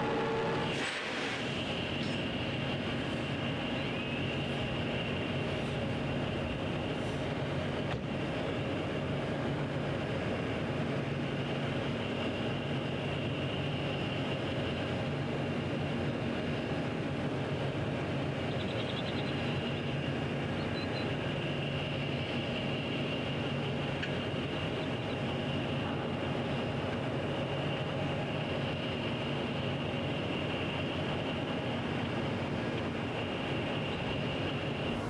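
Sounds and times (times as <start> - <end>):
diesel engine idling: 0.0 - 35.0
high whine: 0.0 - 35.0.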